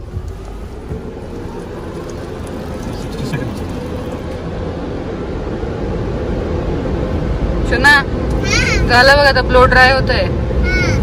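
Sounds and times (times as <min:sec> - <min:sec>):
car wash blowers rushing air: 0:00.0 - 0:11.0.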